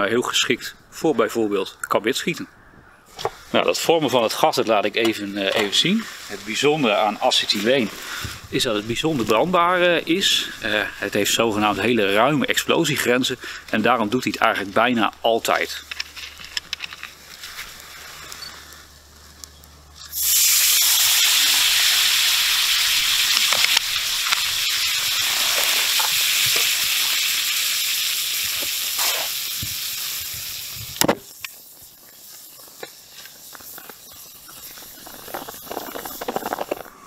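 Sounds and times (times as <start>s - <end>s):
chemical fizzing and hissing: 3.1s - 37.0s.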